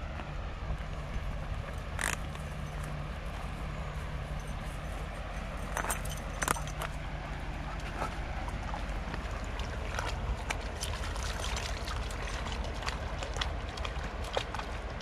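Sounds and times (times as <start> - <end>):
dog paws splashing in water: 0.0 - 15.0
steady low rumble: 0.0 - 15.0.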